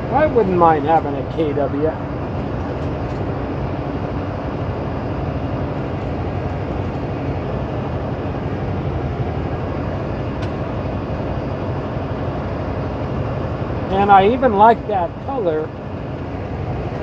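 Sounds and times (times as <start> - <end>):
truck engine and tyres droning: 0.0 - 17.0.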